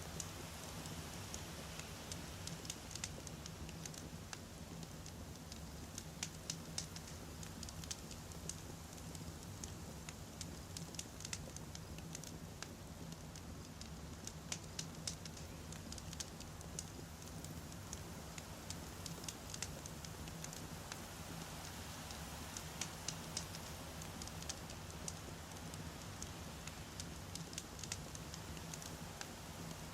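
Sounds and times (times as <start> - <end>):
campfire crackling and popping: 0.0 - 29.9
soft steady hiss: 0.0 - 29.9.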